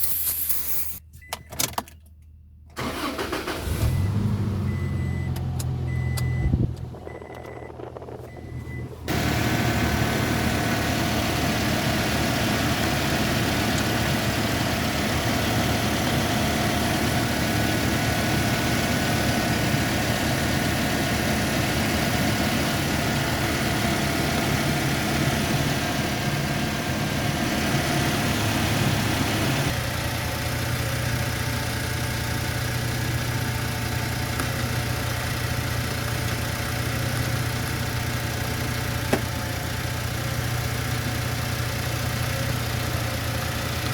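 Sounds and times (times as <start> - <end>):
car engine idling: 2.6 - 43.9.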